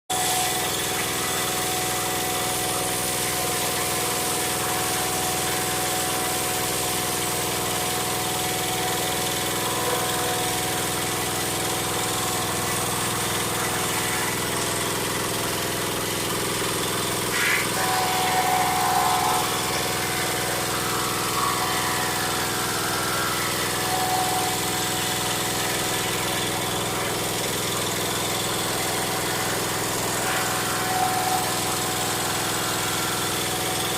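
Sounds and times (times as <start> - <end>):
high-pitched whine: 0.1 - 33.9
wood planer running: 0.1 - 33.9.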